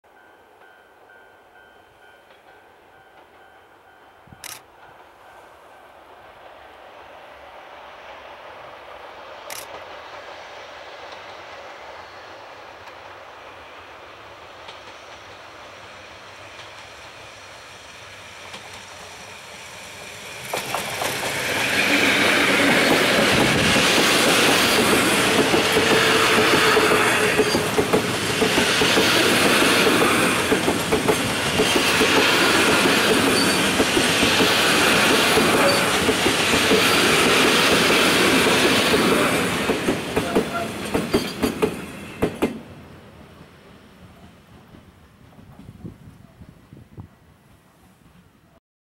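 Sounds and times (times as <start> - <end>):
electric locomotive passing: 0.1 - 48.6.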